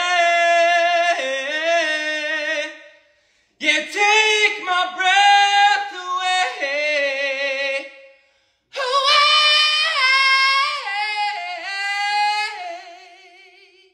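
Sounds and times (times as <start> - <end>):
man singing unaccompanied: 0.0 - 3.0, 3.6 - 8.0, 8.7 - 13.9.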